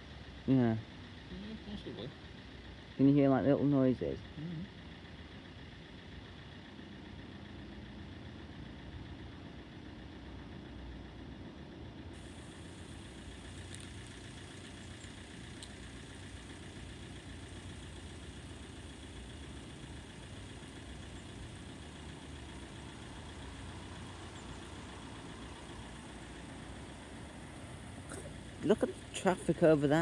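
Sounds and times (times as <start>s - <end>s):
distant vehicles idling: 0.0s - 30.0s
road traffic rumble: 0.0s - 30.0s.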